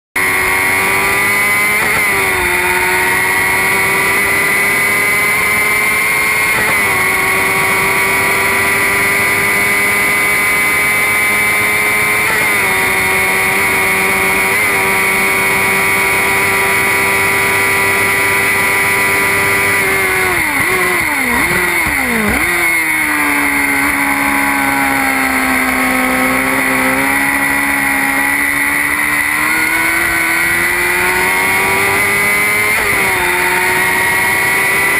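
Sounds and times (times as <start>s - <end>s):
race car engine at high revs: 0.0s - 34.9s
downshifts with throttle blips: 0.2s - 34.9s.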